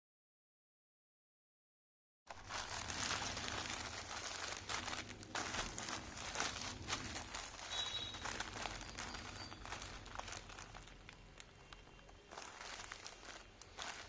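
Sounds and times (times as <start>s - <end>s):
packaging crinkling and rustling: 2.3s - 14.0s.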